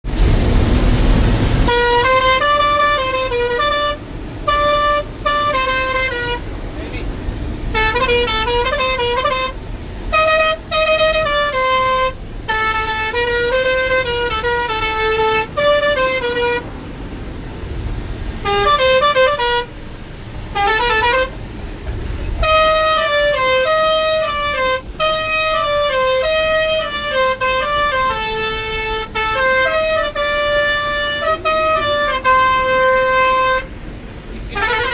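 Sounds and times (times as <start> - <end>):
low engine rumble: 0.0 - 34.9
truck musical horn playing: 1.5 - 17.1, 18.2 - 34.9.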